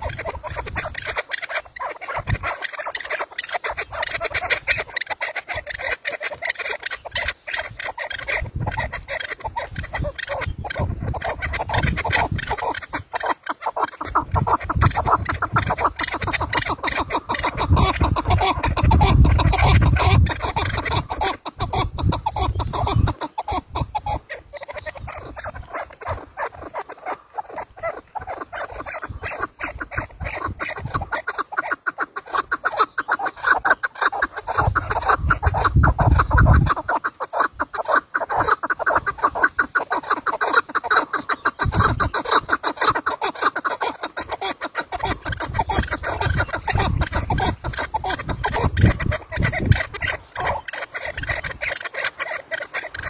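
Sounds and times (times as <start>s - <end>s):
partridges clucking: 0.0s - 53.0s.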